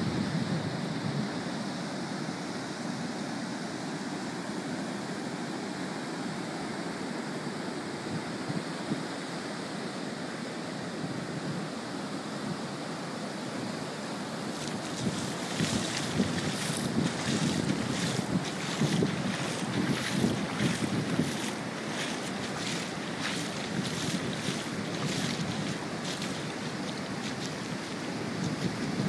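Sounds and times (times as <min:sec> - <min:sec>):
ocean surf breaking on sand: 0:00.0 - 0:29.0.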